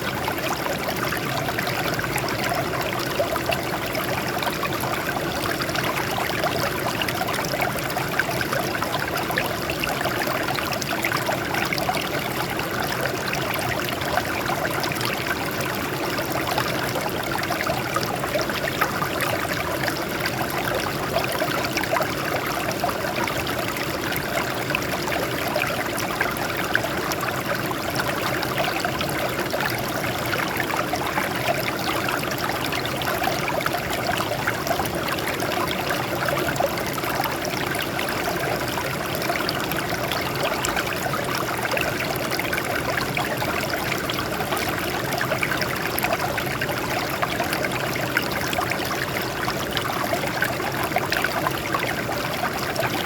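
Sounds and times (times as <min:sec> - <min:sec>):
water trickling over rocks: 0:00.0 - 0:53.0.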